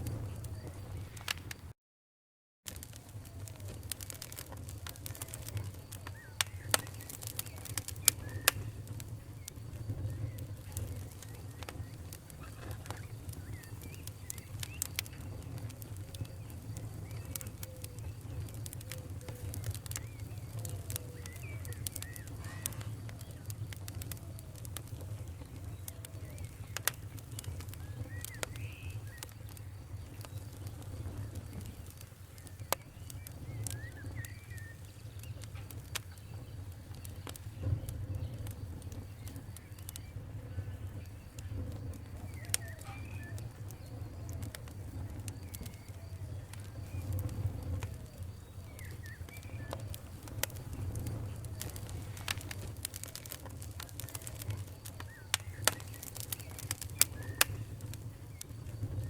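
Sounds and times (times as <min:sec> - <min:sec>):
fire pops and snaps: 0:00.0 - 0:01.7, 0:02.7 - 0:59.0
low rumble of flames: 0:00.0 - 0:01.8, 0:02.7 - 0:59.0
wood fire crackling: 0:00.0 - 0:01.8, 0:02.7 - 0:59.0.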